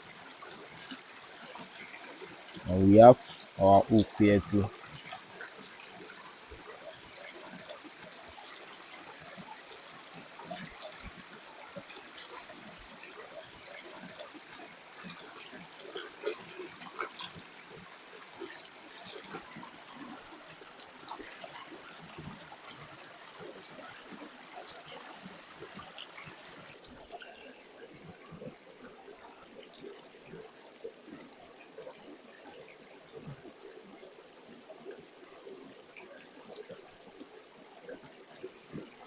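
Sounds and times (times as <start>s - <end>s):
stream trickling: 0.0s - 39.0s.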